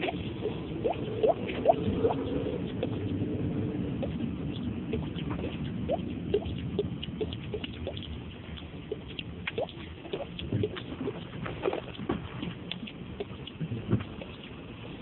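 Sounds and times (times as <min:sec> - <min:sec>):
steady wash of noise: 0:00.0 - 0:15.0.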